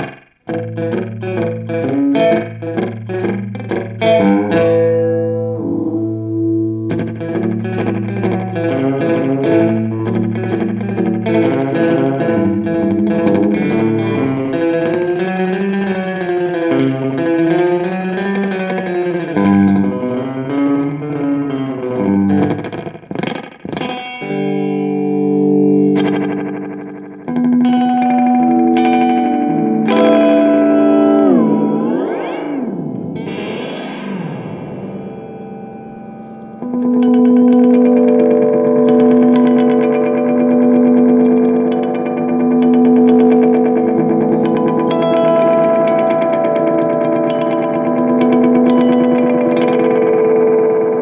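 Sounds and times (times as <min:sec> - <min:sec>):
electric guitar with chorus effect: 0:00.0 - 0:51.0.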